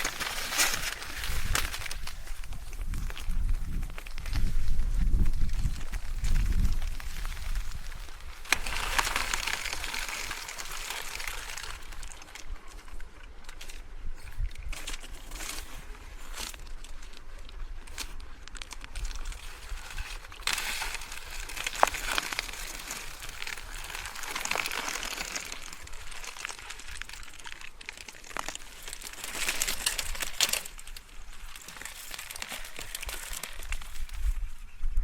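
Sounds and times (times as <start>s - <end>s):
bike tyres crunching on dirt: 0.0s - 13.1s, 17.6s - 34.6s.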